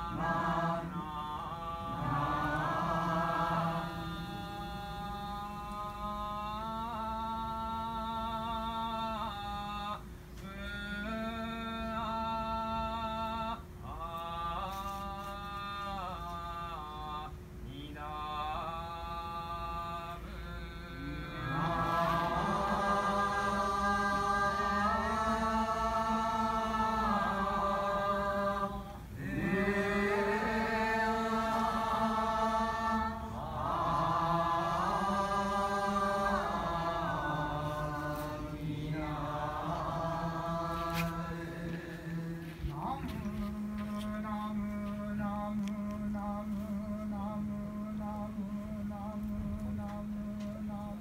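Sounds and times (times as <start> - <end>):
liturgical chanting: 0.0 - 51.0.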